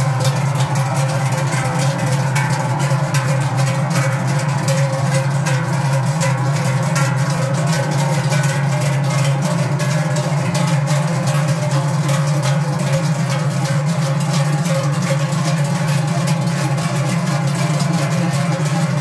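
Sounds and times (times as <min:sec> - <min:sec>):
cowbells clanging: 0:00.0 - 0:19.0
deep drone: 0:00.0 - 0:19.0.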